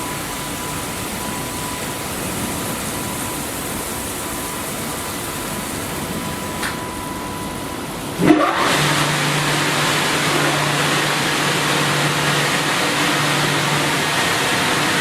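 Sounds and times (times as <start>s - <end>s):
car wash machine rushing hiss: 0.0s - 15.0s.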